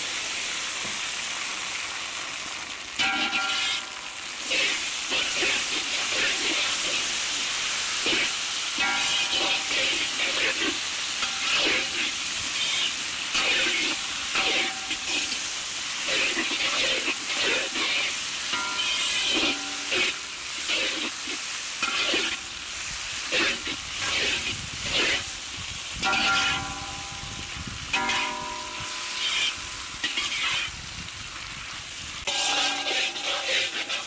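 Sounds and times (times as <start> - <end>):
vegetables sizzling in a pan: 0.0 - 34.0
metal ladle scraping a pan: 3.0 - 25.4, 26.0 - 26.9, 28.0 - 30.8, 32.2 - 34.0.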